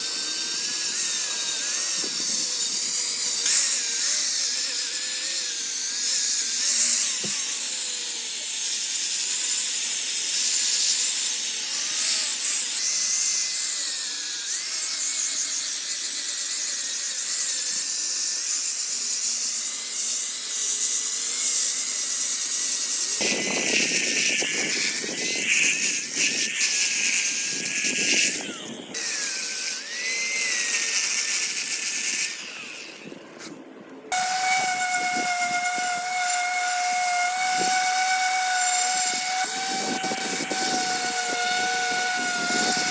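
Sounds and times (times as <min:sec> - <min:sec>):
power tool working wood: 0:00.0 - 0:42.9.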